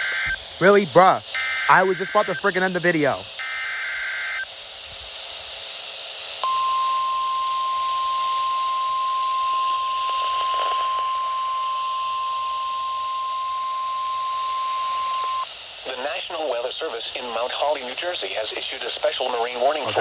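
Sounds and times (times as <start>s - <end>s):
radio receiver hissing: 0.0s - 20.0s
steady single-pitch alarm tone: 0.0s - 20.0s.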